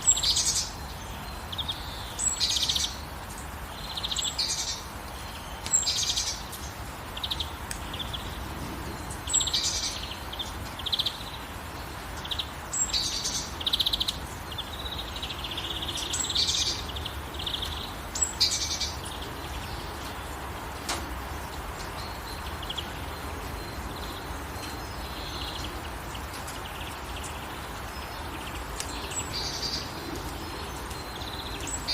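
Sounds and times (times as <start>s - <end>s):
songbird singing with trills: 0.0s - 3.1s, 3.7s - 20.5s, 21.3s - 31.9s
light rain hiss: 0.0s - 31.9s.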